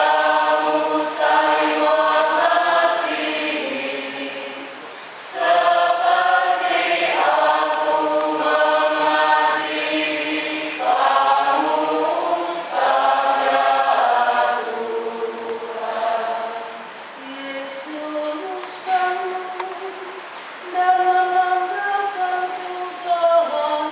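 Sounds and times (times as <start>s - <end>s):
choir singing a hymn: 0.0s - 19.6s.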